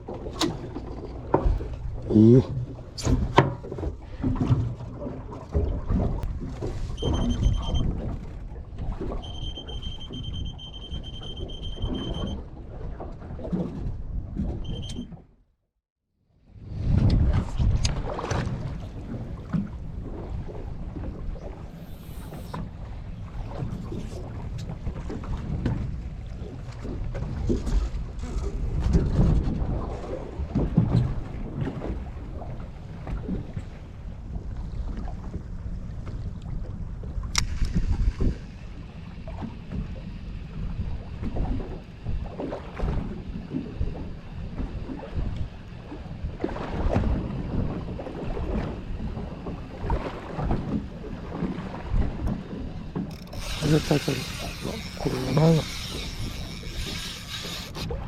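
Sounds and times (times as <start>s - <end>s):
water noise: 0.0s - 15.4s, 16.4s - 58.0s
wind: 0.0s - 58.0s.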